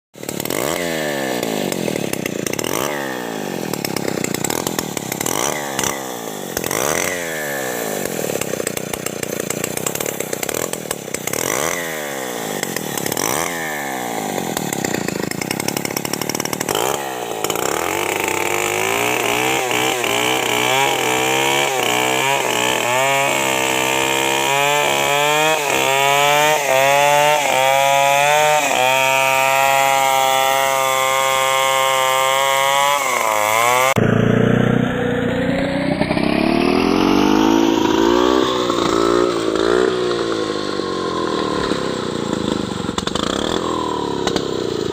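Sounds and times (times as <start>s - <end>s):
chainsaw cutting tree: 0.2s - 44.9s.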